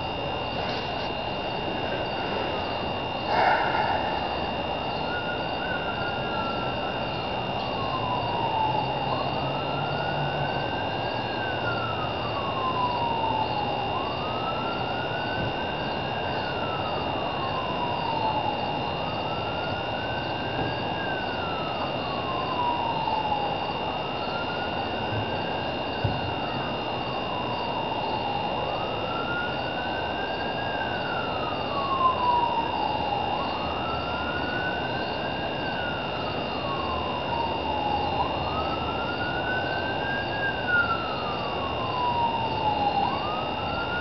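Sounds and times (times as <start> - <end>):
distant siren wailing: 0.0 - 44.0
faint constant high tone: 0.0 - 44.0.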